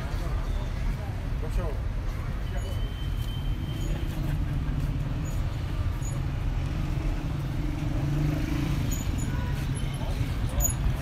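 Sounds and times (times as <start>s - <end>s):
low rumble of traffic engines: 0.0s - 11.0s.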